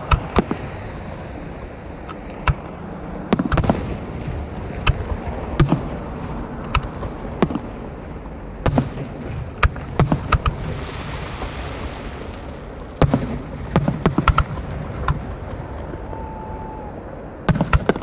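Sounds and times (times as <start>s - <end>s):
fireworks booming: 0.0s - 18.0s
steady background hiss: 0.0s - 18.0s.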